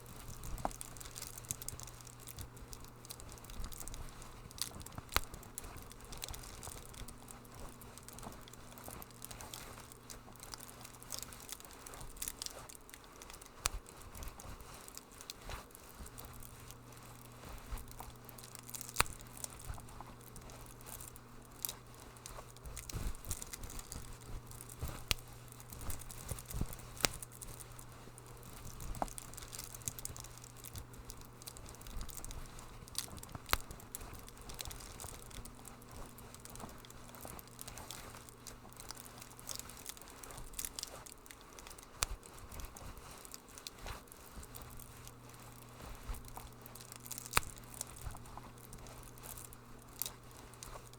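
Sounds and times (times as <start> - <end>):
steady low hum: 0.0 - 50.9
wood fire crackling: 0.0 - 50.9.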